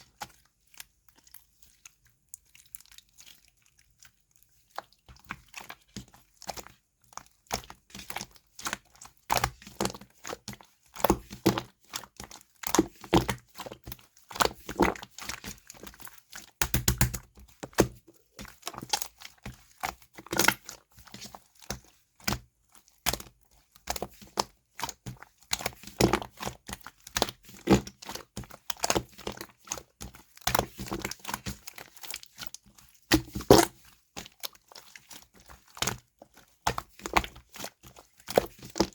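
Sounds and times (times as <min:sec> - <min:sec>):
slime squishing with clicks and pops: 0:07.4 - 0:38.9.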